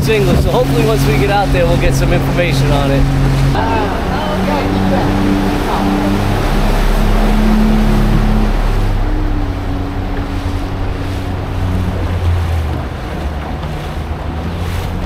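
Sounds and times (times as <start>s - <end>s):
motorboat engine humming: 0.0s - 15.0s
water rushing along hull: 0.0s - 15.0s
wind buffeting microphone: 0.0s - 15.0s.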